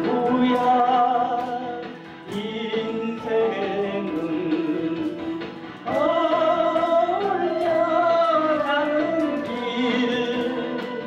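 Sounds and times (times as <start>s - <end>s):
karaoke backing track: 0.0s - 11.0s
man singing into a microphone: 0.0s - 11.0s.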